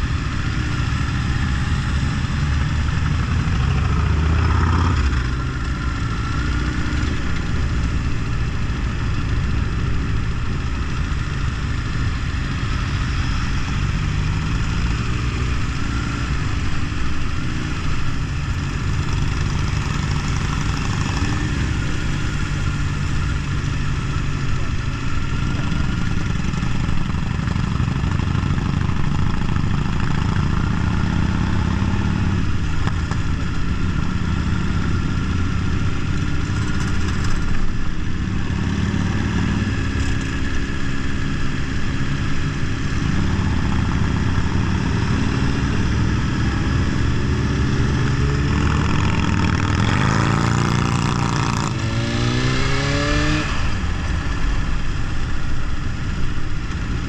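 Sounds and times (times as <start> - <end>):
motorcycle accelerating: 0.0 - 57.0
motorcycle engines droning: 0.0 - 57.0.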